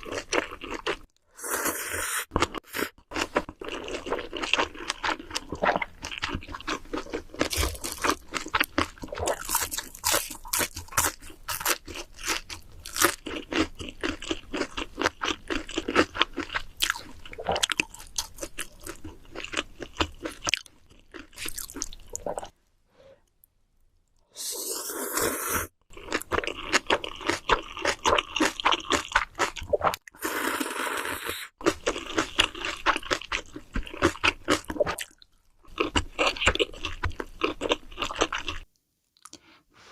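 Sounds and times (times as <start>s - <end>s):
wet chewing and crunching: 0.0s - 1.2s, 2.3s - 22.6s, 25.9s - 30.4s, 31.6s - 39.4s.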